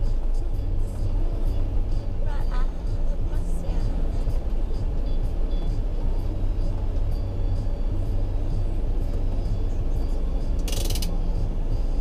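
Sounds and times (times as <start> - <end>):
engine idling low rumble: 0.0 - 12.0.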